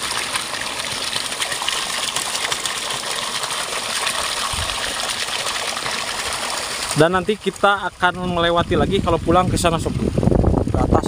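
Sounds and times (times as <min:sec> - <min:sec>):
stream water rushing: 0:00.0 - 0:10.6.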